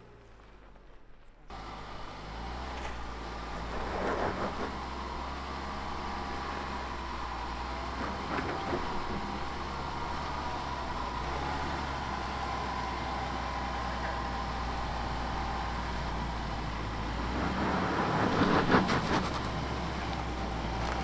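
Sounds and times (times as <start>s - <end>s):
car engine running low revs: 0.0s - 21.0s
tyres crunching on dirt: 0.0s - 21.0s.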